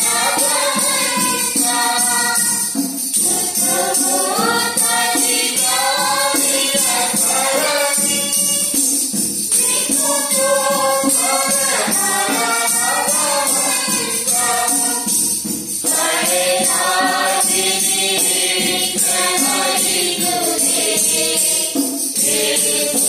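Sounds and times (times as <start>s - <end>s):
group singing a hymn: 0.0s - 23.0s
tambourine shaking: 0.0s - 23.0s.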